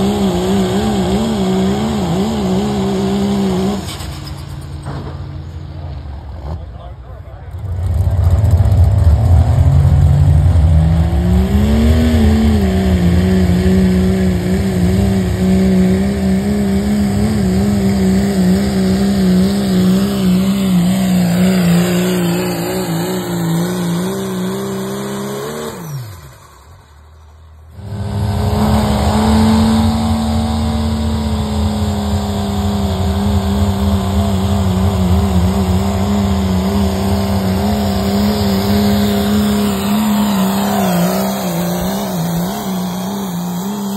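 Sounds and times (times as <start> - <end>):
diesel truck engine at full throttle: 0.0 - 43.9.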